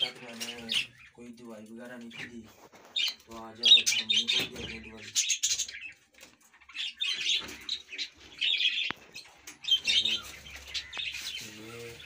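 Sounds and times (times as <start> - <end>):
parrots chirping and chattering: 0.0 - 12.0.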